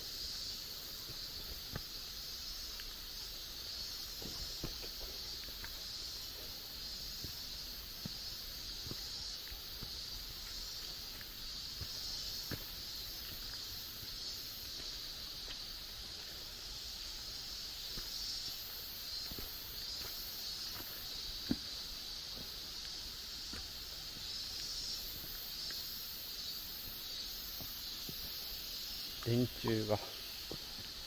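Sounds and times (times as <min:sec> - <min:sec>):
insects droning: 0:00.0 - 0:31.0
soft footsteps on a trail: 0:00.0 - 0:31.0.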